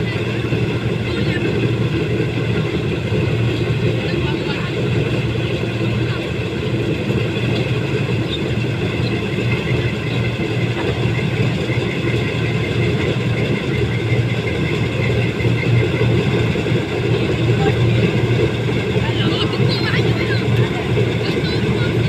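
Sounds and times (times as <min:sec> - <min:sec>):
combine harvester engine humming: 0:00.0 - 0:22.0.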